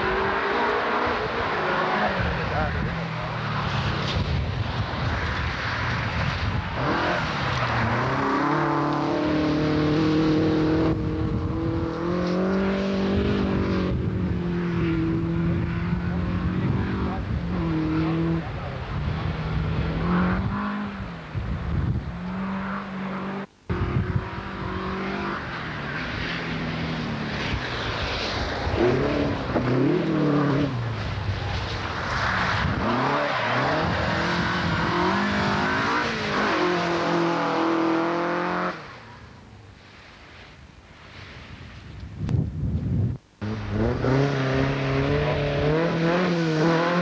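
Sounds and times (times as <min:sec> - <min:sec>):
rally cars revving past: 0:00.0 - 0:39.1, 0:43.4 - 0:47.0.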